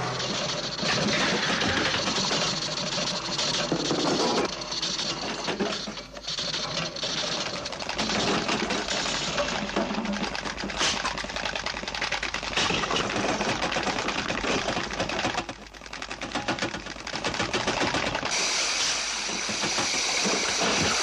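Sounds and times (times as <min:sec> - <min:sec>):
mechanical rattling clatter: 0:00.0 - 0:21.0.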